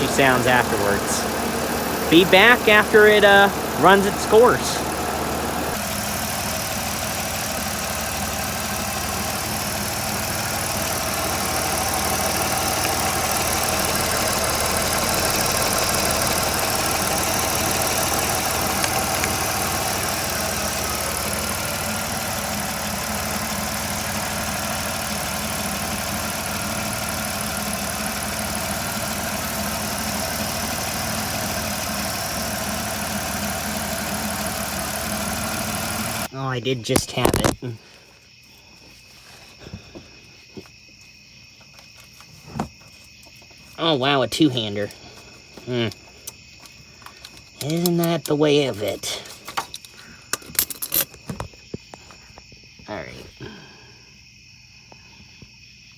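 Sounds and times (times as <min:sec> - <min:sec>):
car engine idling: 0:00.0 - 0:36.3, 0:41.6 - 0:52.1.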